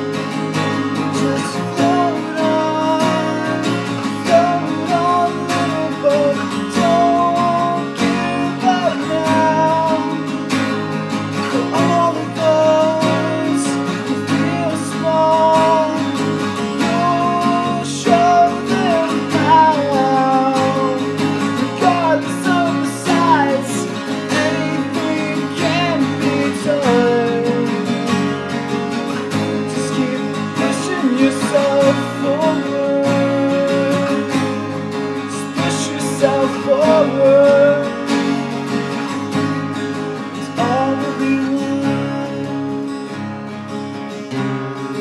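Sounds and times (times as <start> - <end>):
acoustic guitars strumming chords: 0.0 - 45.0
guitar melody line: 0.0 - 45.0.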